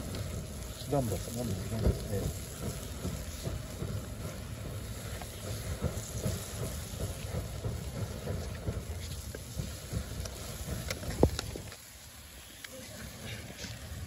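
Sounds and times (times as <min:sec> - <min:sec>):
fat crackling on coals: 0:00.0 - 0:14.0
kebabs sizzling on grill: 0:00.0 - 0:14.0.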